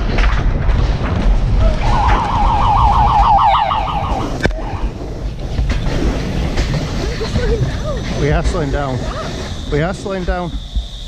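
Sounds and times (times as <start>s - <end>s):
sled rumbling on steel rails: 0.0s - 11.0s
wind on microphone: 0.0s - 11.0s.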